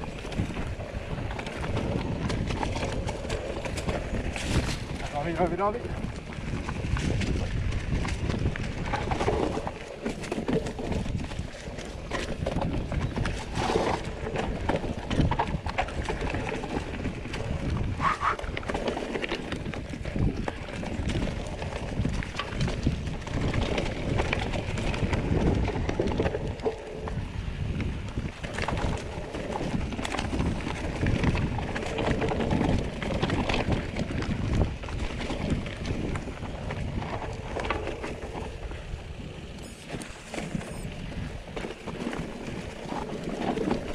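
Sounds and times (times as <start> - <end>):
bike rattling and knocking: 0.0 - 43.9
bike tyres on dirt and stones: 0.0 - 43.9.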